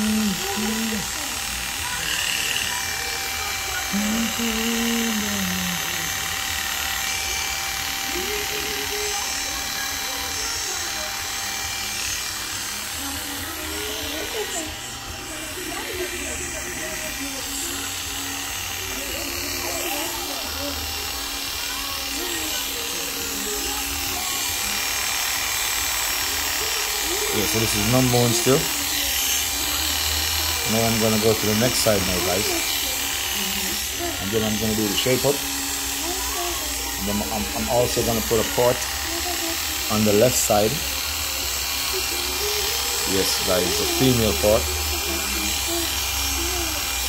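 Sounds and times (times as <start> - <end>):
electric hair clippers buzzing: 0.0 - 47.0
faint background music: 0.0 - 47.0.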